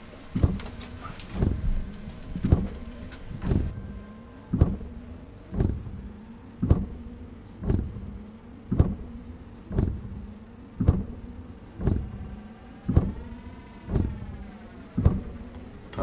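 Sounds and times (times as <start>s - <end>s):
steady low drone: 0.0s - 16.0s
deep heartbeat-like thump: 0.3s - 3.8s, 4.5s - 16.0s.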